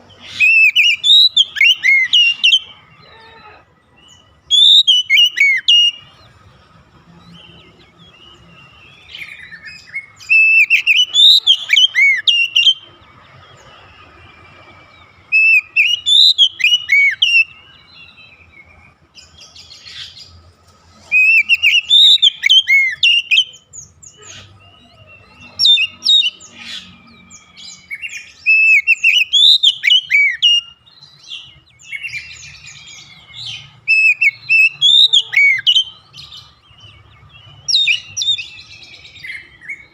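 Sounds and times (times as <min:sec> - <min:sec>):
bird singing whistled notes: 0:00.0 - 0:03.0, 0:03.9 - 0:06.4, 0:07.1 - 0:20.4, 0:21.0 - 0:39.9.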